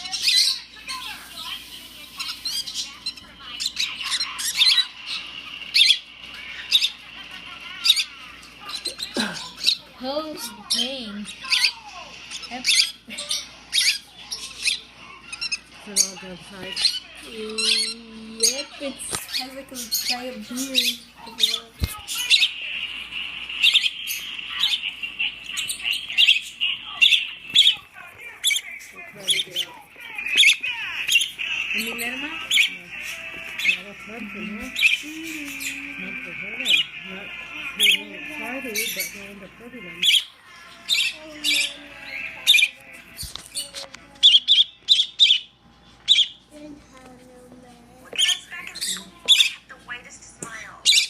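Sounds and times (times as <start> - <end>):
pet birds chirping: 0.0 - 46.8, 47.8 - 51.0.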